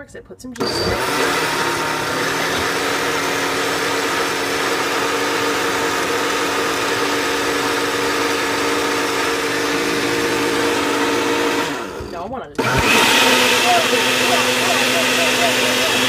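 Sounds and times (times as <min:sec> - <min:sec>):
blender motor humming: 0:00.6 - 0:16.0.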